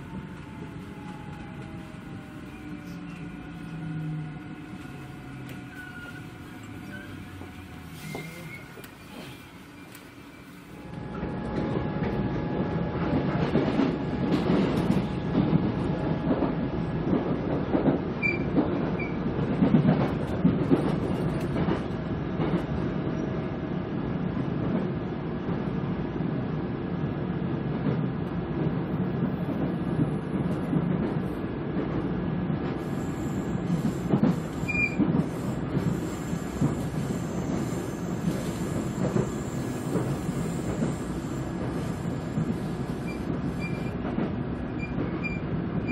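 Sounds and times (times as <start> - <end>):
train wheels rumbling on track: 0.0 - 45.9.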